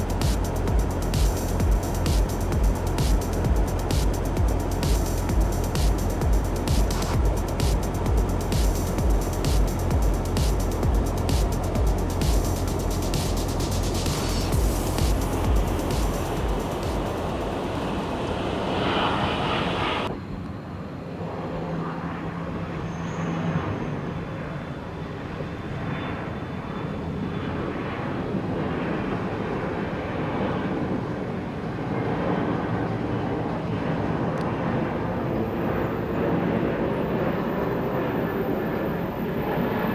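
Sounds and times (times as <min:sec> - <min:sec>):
jet engines rumbling: 0:00.0 - 0:20.3, 0:27.0 - 0:39.9.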